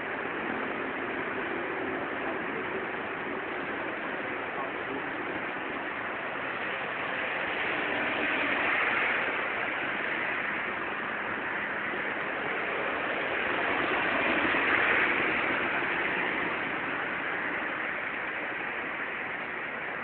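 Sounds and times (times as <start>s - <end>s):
rain on wet street: 0.0s - 20.0s.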